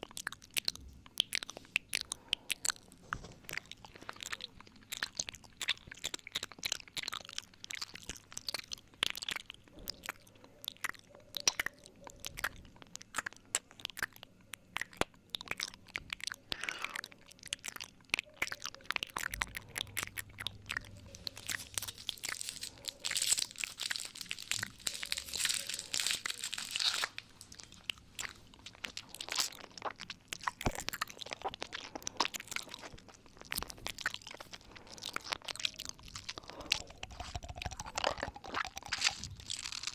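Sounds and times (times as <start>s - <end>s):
tongue clicks: 0.0s - 39.9s
wet lip smacks: 0.0s - 39.9s.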